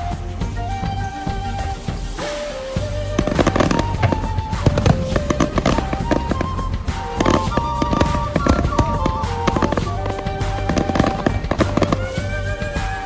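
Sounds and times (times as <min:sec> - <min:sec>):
loud music with a melody: 0:00.0 - 0:13.0
fireworks crackling and popping: 0:02.2 - 0:13.0.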